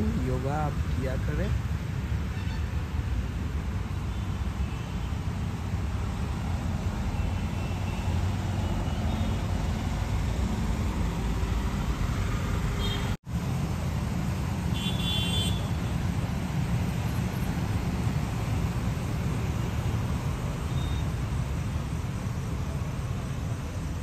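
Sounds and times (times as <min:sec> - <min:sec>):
low rumble of road traffic: 0:00.0 - 0:24.0.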